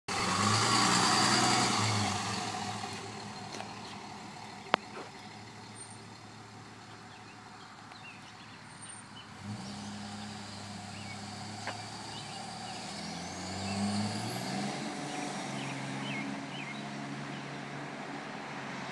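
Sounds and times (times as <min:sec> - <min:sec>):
diesel truck pulling away: 0:00.1 - 0:18.9
low engine hum: 0:00.1 - 0:18.9.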